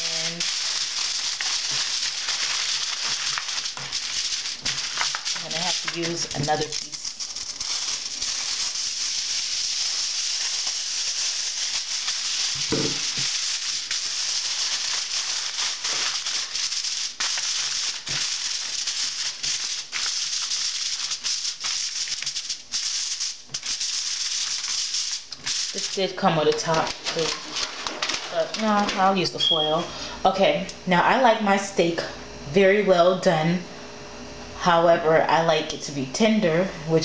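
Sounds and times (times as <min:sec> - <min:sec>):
aluminum foil crinkling: 0:00.0 - 0:29.7.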